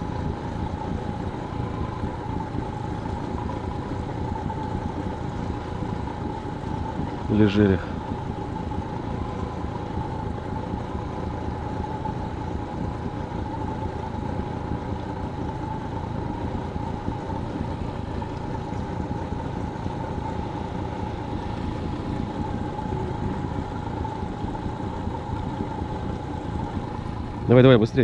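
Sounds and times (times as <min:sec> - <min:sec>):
outboard motor running with whine: 0:00.0 - 0:28.0.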